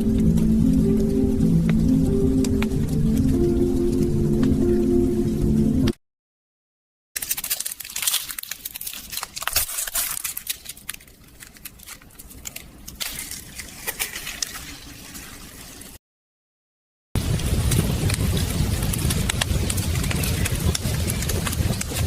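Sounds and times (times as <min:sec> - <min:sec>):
charcoal crackling and popping: 0:00.0 - 0:05.6, 0:07.2 - 0:14.9, 0:17.2 - 0:22.0.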